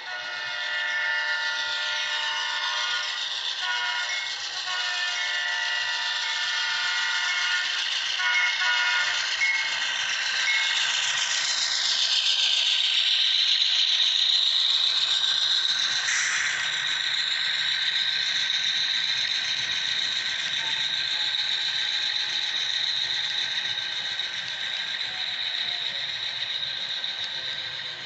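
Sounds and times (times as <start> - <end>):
light rattle of train cars: 0.0 - 28.0
model train wheels squealing on rails: 0.0 - 28.0.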